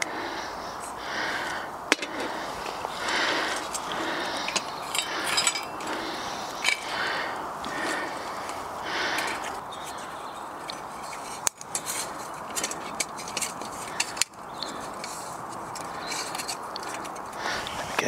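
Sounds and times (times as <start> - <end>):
twigs clicking and crackling: 0.0 - 18.0.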